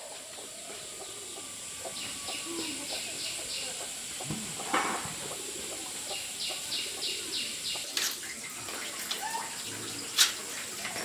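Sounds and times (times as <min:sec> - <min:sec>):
bird chirping: 0:00.0 - 0:04.4, 0:05.2 - 0:11.0.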